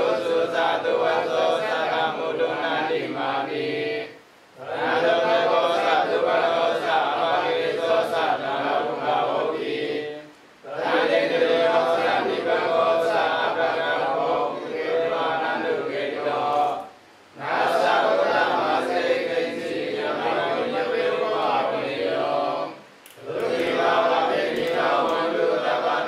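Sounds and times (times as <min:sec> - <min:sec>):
men chanting in unison: 0:00.0 - 0:26.0.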